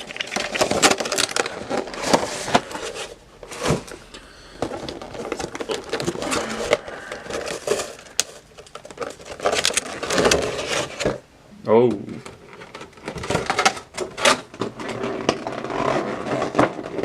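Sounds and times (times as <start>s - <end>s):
packaging crinkling and clicking: 0.0s - 11.2s, 12.2s - 17.0s.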